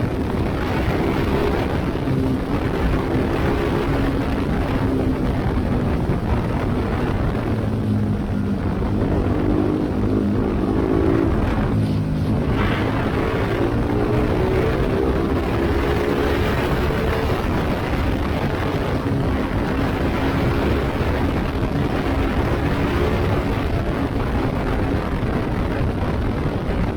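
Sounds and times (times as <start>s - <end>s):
motorcycle engine running: 0.0s - 26.9s
wind rushing over microphone: 0.0s - 26.9s.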